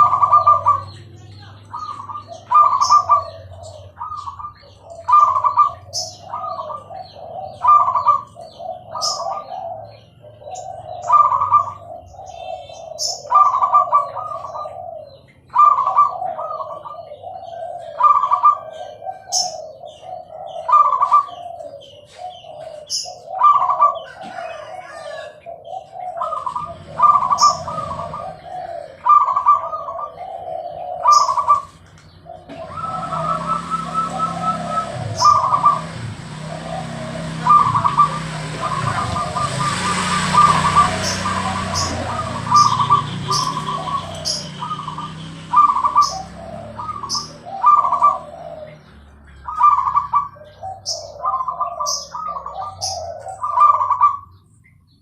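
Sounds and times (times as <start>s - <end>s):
dove cooing: 0.0s - 54.5s.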